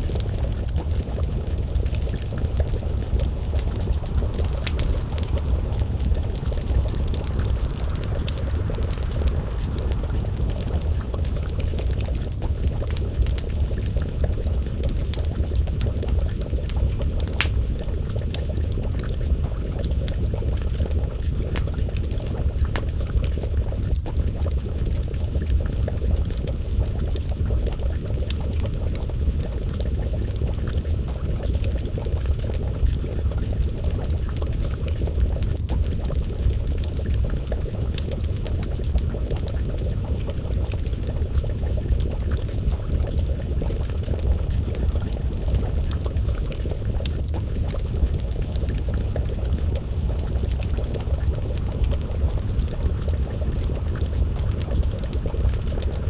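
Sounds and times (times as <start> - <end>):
stew bubbling in a pot: 0.0 - 56.0
wood fire crackling and popping: 0.0 - 56.0.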